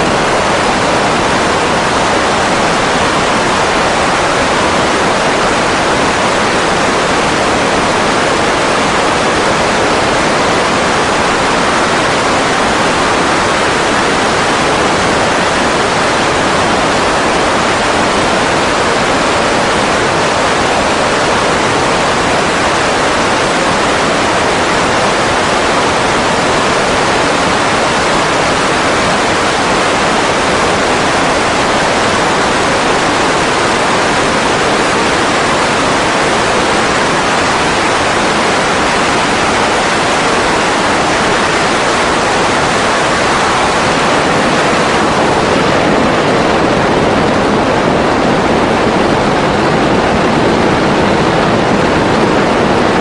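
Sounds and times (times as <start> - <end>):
wind and prop wash rushing: 0.0 - 53.0.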